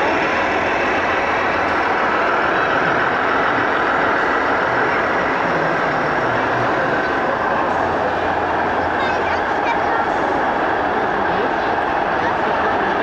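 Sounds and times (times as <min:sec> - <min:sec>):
exhibition hall crowd din: 0:00.0 - 0:13.0.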